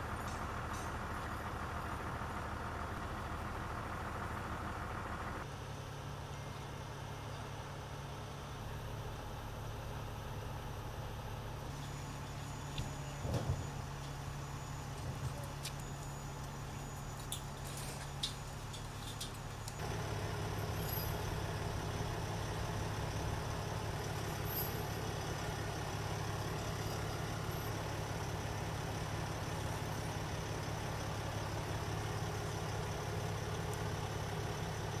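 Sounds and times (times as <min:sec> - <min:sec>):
truck diesel engine idling: 0:00.0 - 0:35.0.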